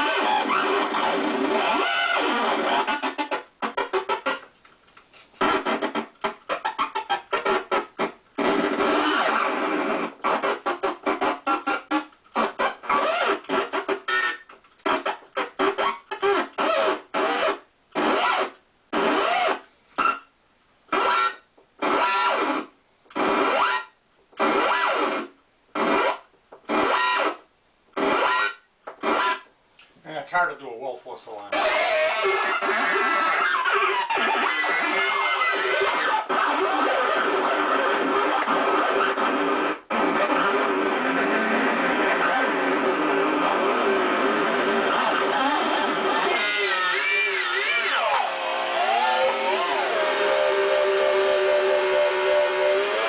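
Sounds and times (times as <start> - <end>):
buzzing synth squawk: 0.0 - 4.4, 5.4 - 20.2, 20.9 - 22.7, 23.3 - 27.4, 28.0 - 29.5, 31.5 - 53.0.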